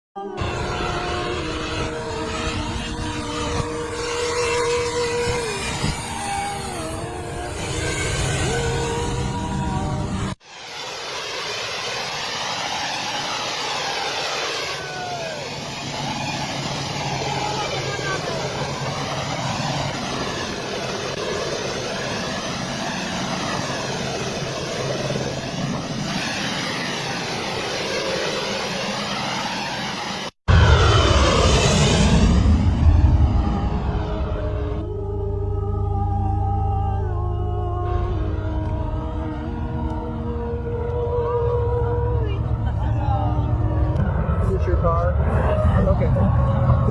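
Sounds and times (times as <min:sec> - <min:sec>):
jet engines running with whine: 0:00.2 - 0:46.9
low rumble: 0:00.2 - 0:46.9.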